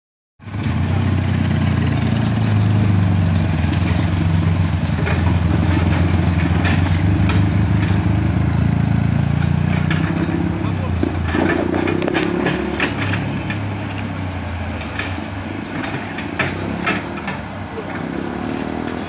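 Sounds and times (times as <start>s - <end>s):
excavator diesel engine running: 0.4s - 19.0s.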